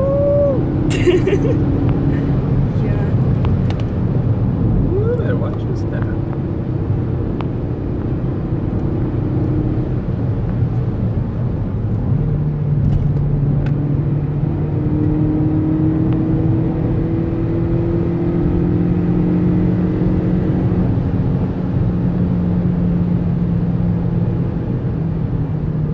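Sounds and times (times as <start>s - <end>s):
car engine and road noise: 0.0s - 25.9s.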